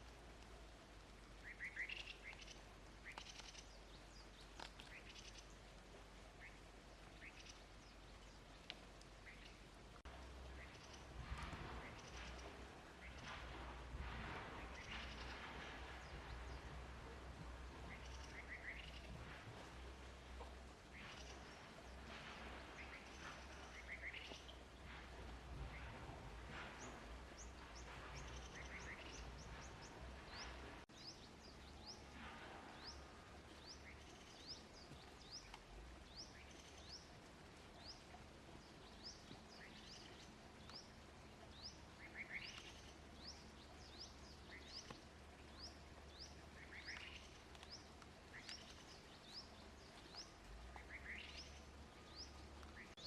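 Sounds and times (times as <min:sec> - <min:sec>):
faint bird chirping: 0:01.0 - 0:11.2, 0:14.5 - 0:53.0.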